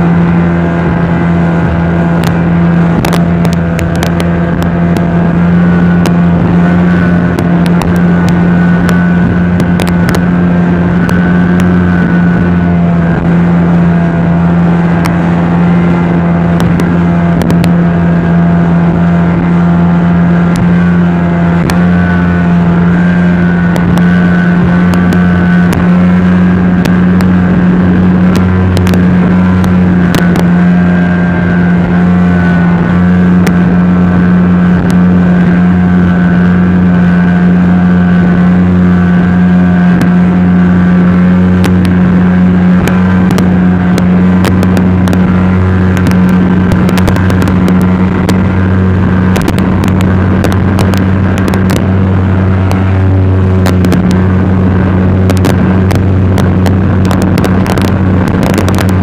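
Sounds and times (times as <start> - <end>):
speedboat engine droning: 0.0 - 59.0.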